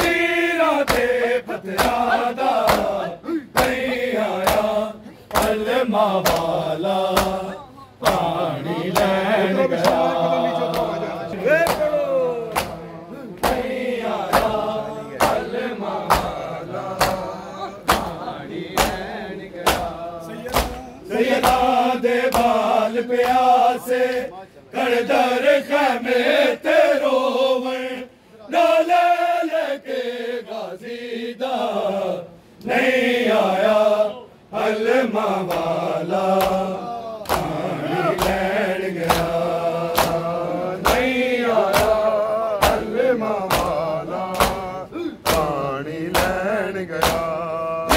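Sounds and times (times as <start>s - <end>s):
men chanting in unison: 0.0s - 47.9s.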